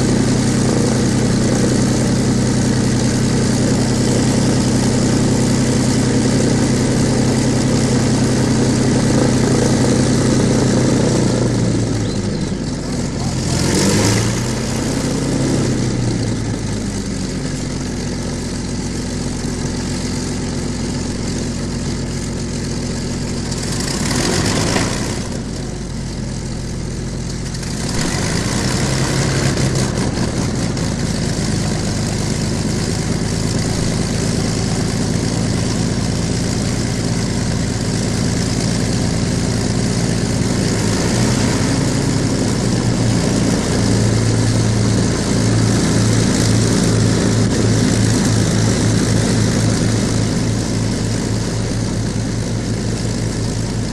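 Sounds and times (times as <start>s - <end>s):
aircraft piston engines idling: 0.0s - 53.9s.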